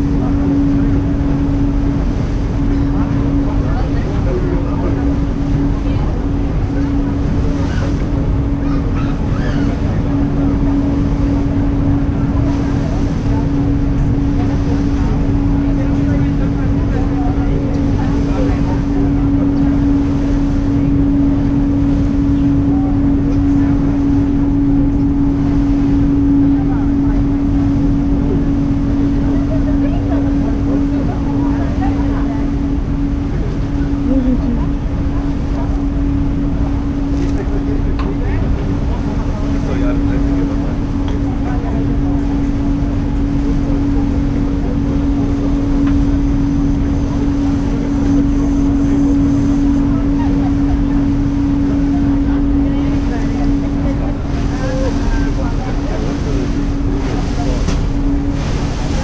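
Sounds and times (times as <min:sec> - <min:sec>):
ferry engines rumbling: 0:00.0 - 0:59.0.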